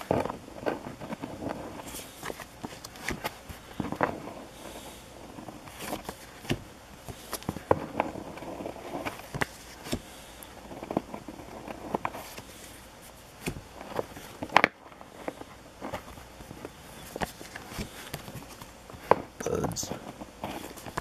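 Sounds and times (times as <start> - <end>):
paper rustling: 0.0 - 4.4, 5.3 - 21.0.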